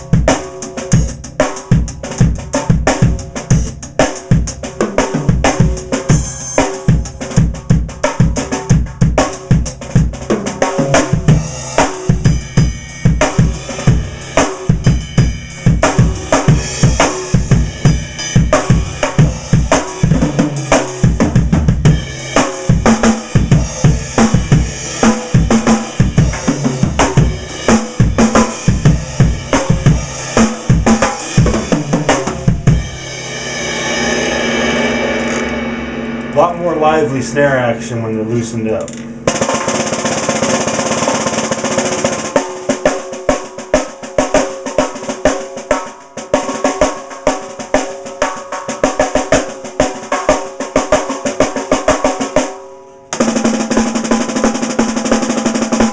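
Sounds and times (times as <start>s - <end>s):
snare drum strokes and rimshots: 0.0s - 32.8s, 38.6s - 55.9s.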